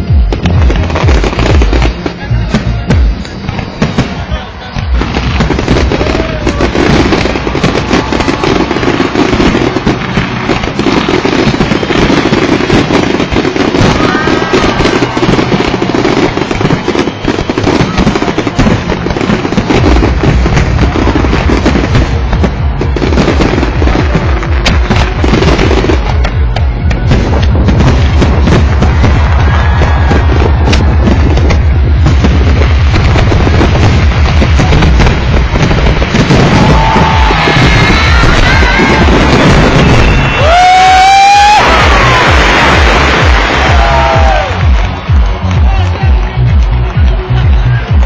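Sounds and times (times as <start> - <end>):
fireworks crackling and banging: 0.0 - 48.0.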